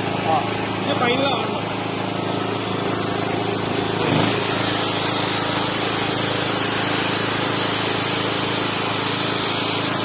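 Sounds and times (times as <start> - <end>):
generator engine humming: 0.0 - 10.0
thin high whine: 0.0 - 10.0.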